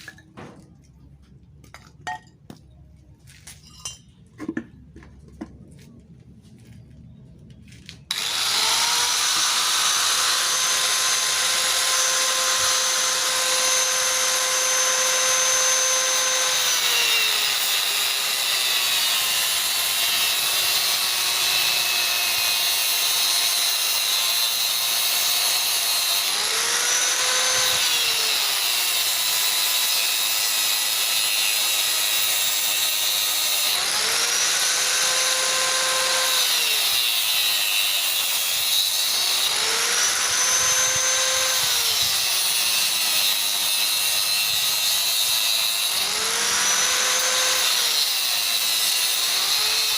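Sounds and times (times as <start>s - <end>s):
power tool motor whining on metal: 8.1s - 49.9s.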